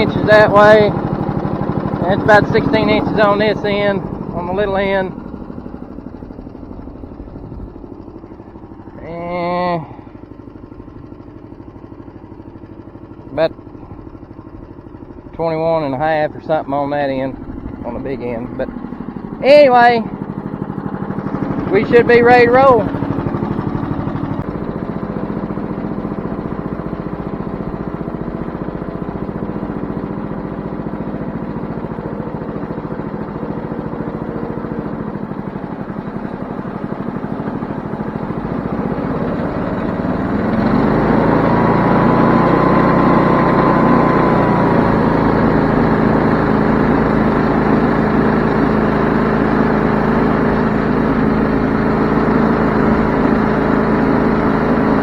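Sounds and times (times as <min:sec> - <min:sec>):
sawmill engine running: 0:00.0 - 0:55.0
sawmill whine: 0:00.0 - 0:55.0.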